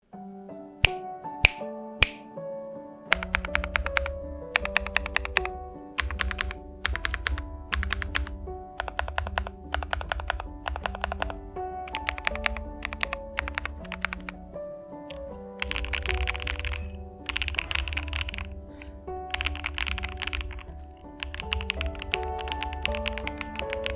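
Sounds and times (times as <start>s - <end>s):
background music: 0.0s - 23.9s
mechanical keyboard typing: 3.1s - 14.4s, 15.1s - 18.5s, 19.3s - 23.9s.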